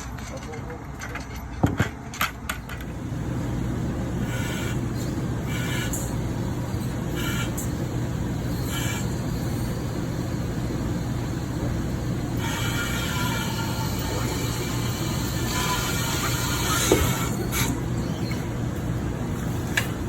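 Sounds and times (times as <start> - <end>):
machine engine rumble: 0.0 - 20.0.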